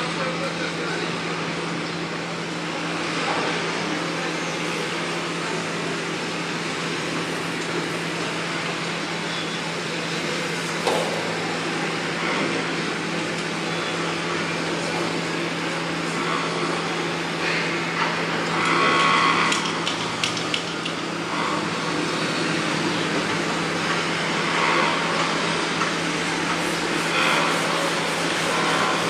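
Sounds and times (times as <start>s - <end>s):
construction machinery running: 0.0s - 29.0s.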